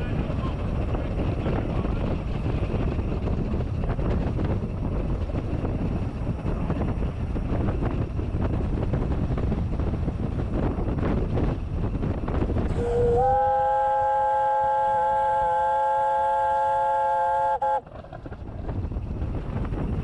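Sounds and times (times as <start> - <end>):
steam locomotive running: 0.0 - 20.0.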